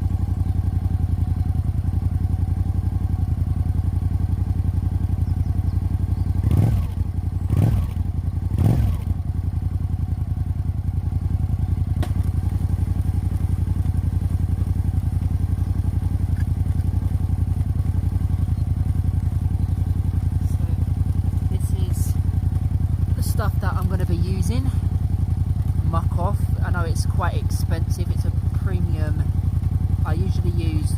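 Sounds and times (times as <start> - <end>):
motorcycle engine idling: 0.0 - 30.9
motorcycle throttle blips: 0.0 - 30.9.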